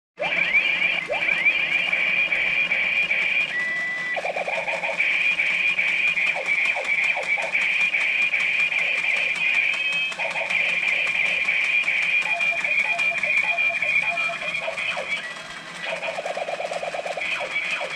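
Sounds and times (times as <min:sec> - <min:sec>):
tinny electronic toy sound effects: 0:00.2 - 0:17.9.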